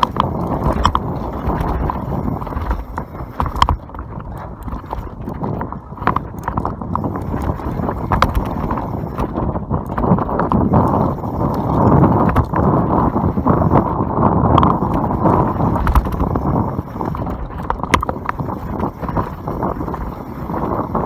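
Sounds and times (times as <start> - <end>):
bike knocking over bumps: 0.0 - 21.0
bike rattling and clicking: 0.0 - 21.0
tyres rumbling on loose dirt: 0.0 - 21.0.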